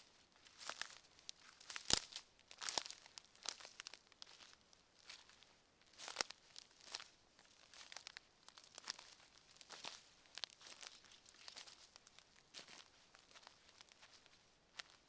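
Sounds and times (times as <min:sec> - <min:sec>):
footsteps crunching on forest floor: 0:00.4 - 0:15.0.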